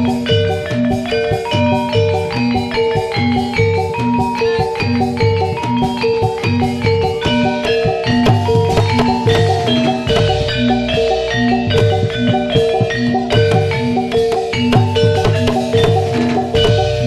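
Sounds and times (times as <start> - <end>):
gamelan metallophones and gongs: 0.0 - 17.0.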